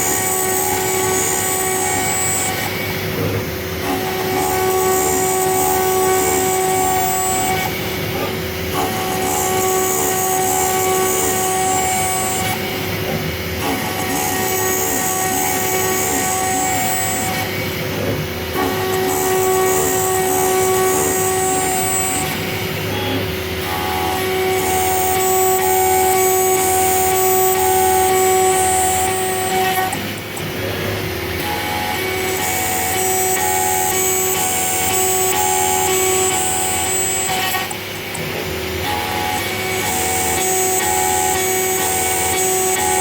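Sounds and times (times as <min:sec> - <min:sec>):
cnc router whining while cutting metal: 0:00.0 - 0:43.0.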